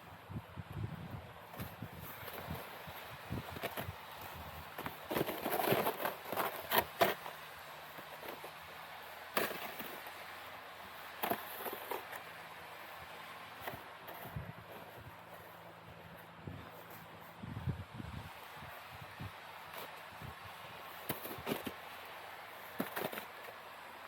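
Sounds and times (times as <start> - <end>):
snow and ice crunching and scraping: 1.5 - 17.5, 18.1 - 24.0.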